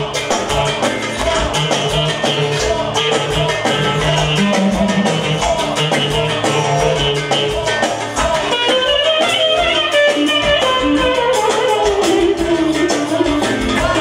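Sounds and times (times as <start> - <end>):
dance beat and bass: 0.0 - 14.0
clarinet melody: 0.4 - 14.0.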